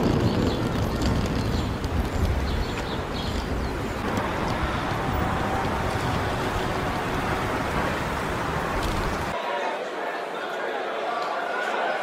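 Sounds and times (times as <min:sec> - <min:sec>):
outdoor street noise: 0:00.0 - 0:12.0.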